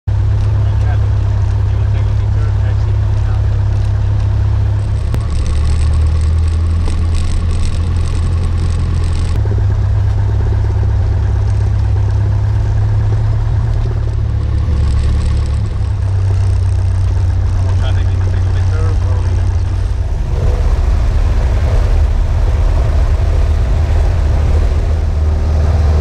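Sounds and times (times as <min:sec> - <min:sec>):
propeller aircraft engine droning: 0:00.1 - 0:26.0.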